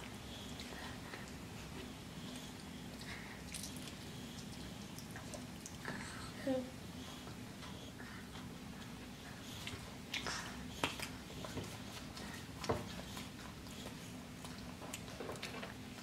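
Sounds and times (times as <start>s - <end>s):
children chewing: 0.0s - 16.0s.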